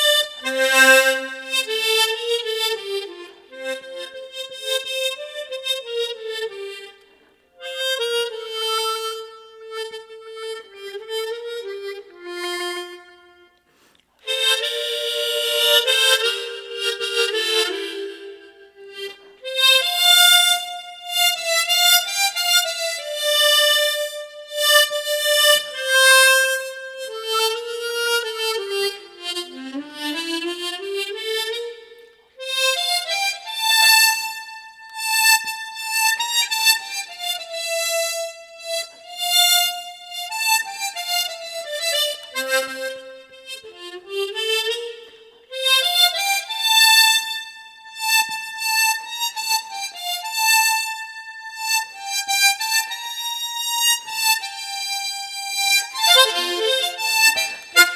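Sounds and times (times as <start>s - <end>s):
tremolo harmonica melody: 0.0s - 57.9s.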